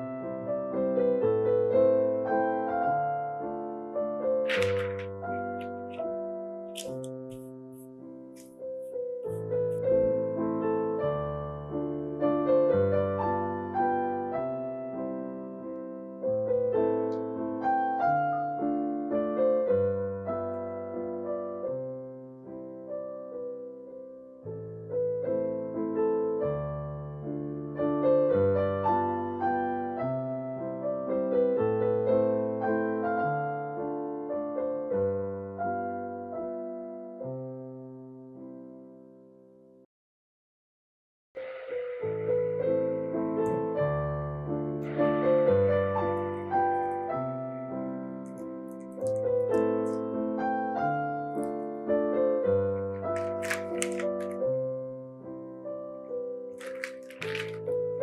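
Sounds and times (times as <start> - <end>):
piano music: 0.0 - 39.8, 41.4 - 58.0.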